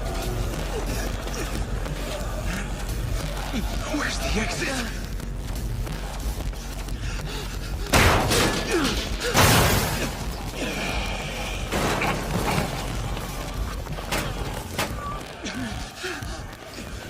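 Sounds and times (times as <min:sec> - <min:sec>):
tense background music: 0:00.0 - 0:17.0.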